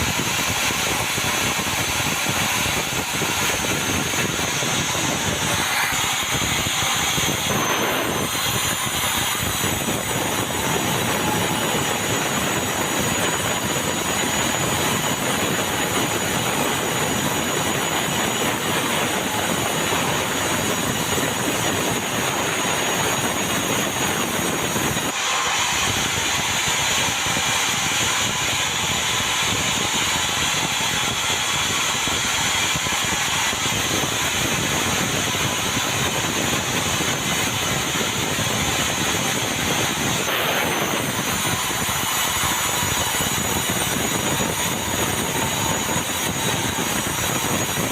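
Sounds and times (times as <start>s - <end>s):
sawmill saw cutting timber: 0.0s - 47.9s.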